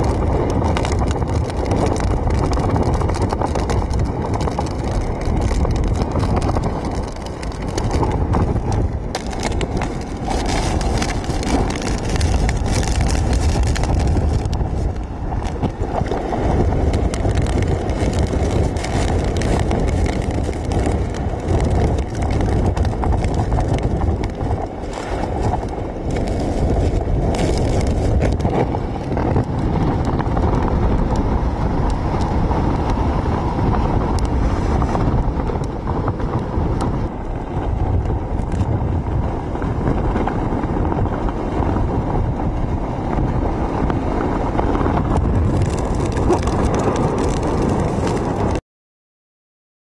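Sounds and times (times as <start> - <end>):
wind buffeting microphone: 0.0 - 48.6.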